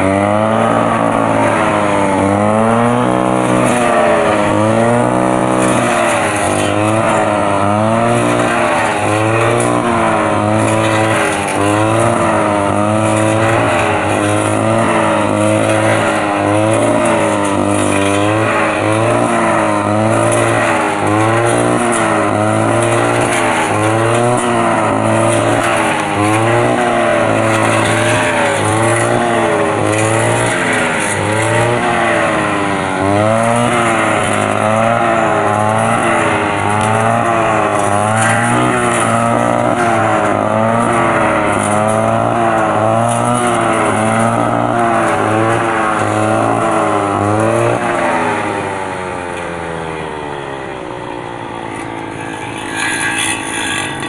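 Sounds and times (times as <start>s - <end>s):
brush cutter cutting weeds: 0.0s - 54.0s.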